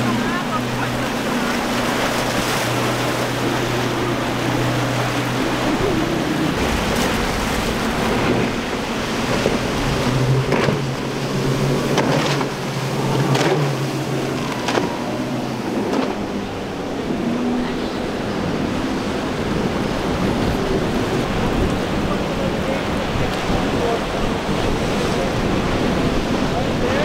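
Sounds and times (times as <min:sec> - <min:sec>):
hull slapping against waves: 0:00.0 - 0:17.1, 0:18.0 - 0:27.0
outboard engine drone: 0:00.0 - 0:27.0
rush of spray and wake: 0:00.0 - 0:27.0.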